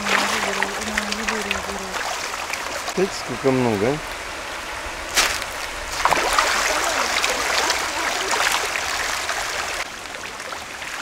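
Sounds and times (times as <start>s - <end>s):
river splashing over rocks: 0.0s - 11.0s.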